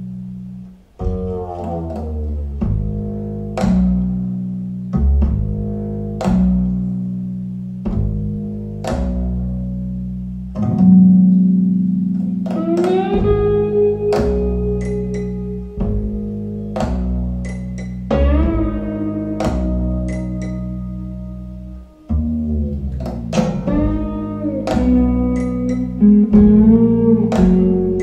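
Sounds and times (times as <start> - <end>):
low held accompaniment: 0.0 - 28.0
plucked bass and guitar: 0.0 - 28.0.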